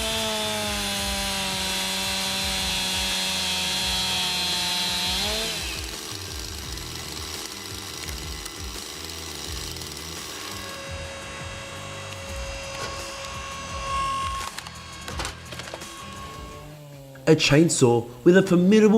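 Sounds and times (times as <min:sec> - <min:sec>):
saw engine cutting log: 0:00.0 - 0:18.9.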